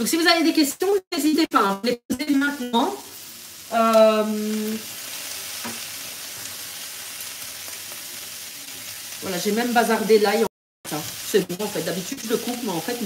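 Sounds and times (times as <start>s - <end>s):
courgettes sizzling in a pan: 0.0s - 13.0s.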